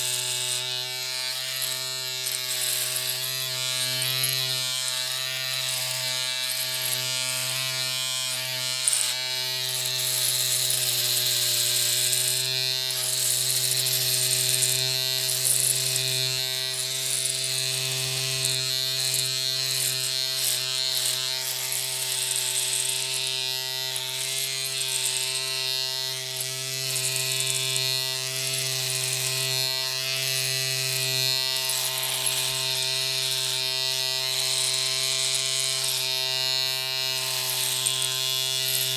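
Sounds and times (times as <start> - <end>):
electric shaver buzzing: 0.0 - 38.9.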